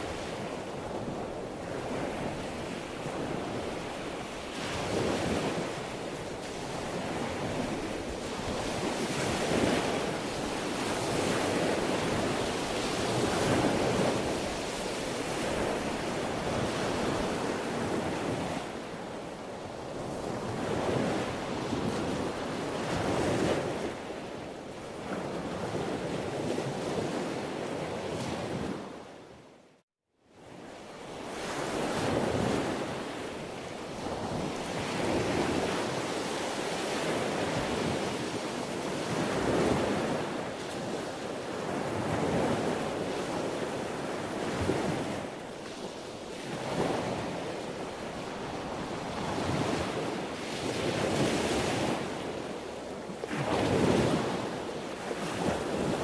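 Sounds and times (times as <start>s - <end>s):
sea waves washing ashore: 0.0s - 29.5s, 30.4s - 56.0s.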